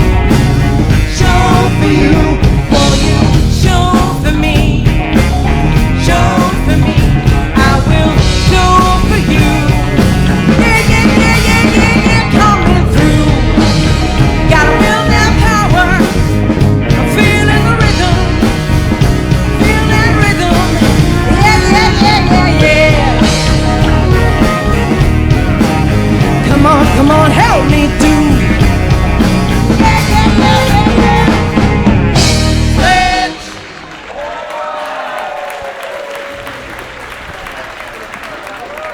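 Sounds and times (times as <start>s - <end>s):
live rock band playing: 0.0s - 34.1s
person singing: 0.3s - 33.8s.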